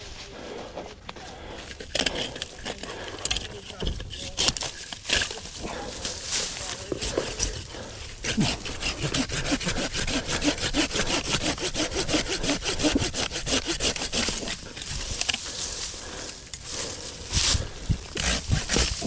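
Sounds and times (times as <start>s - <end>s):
hand saw cutting woody stem: 1.3s - 15.6s, 17.4s - 19.0s.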